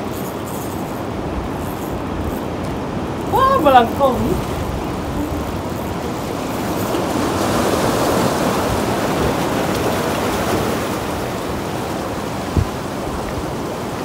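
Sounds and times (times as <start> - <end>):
surf washing against rocks: 0.0 - 14.0.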